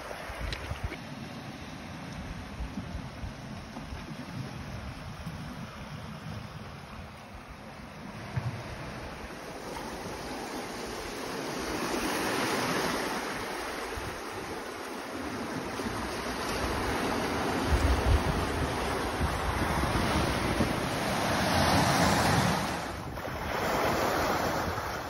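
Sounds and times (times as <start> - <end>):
waves washing over rocky shore: 0.0 - 25.0
wind buffeting microphone: 1.8 - 25.0.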